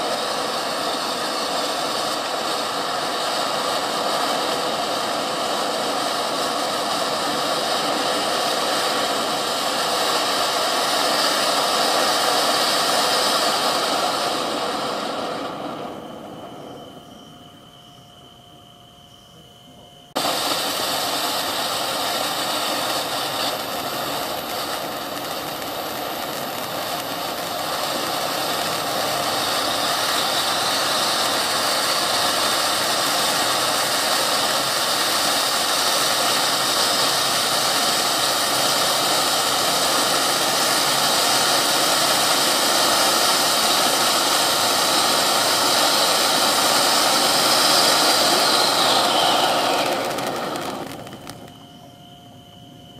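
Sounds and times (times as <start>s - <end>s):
firework fountain hissing: 0.0s - 18.2s, 19.7s - 52.1s.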